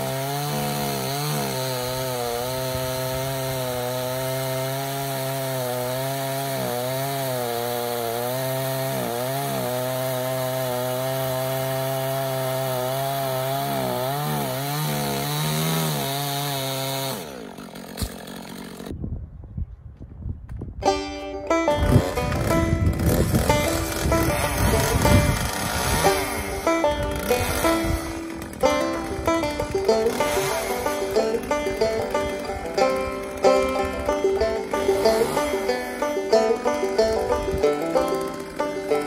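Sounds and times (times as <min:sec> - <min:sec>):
chainsaw cutting wood: 0:00.0 - 0:18.9, 0:21.2 - 0:39.0.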